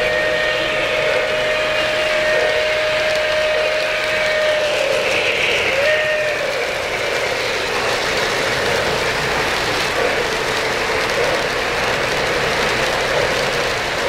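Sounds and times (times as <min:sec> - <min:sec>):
model train wheels on metal track: 0:00.0 - 0:14.0.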